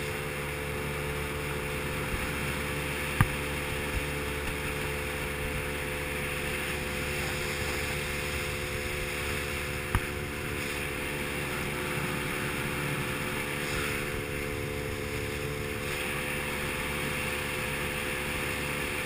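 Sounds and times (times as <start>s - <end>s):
boat motor running: 0.0s - 19.0s
water rushing along hull: 0.0s - 19.0s.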